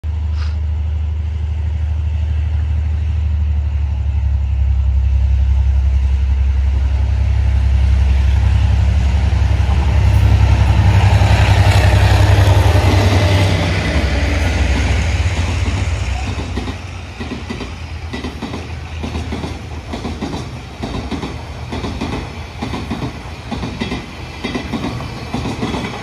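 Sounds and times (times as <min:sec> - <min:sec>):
locomotive diesel engine hum: 0:00.0 - 0:26.0
wheel and rail noise: 0:00.1 - 0:26.0.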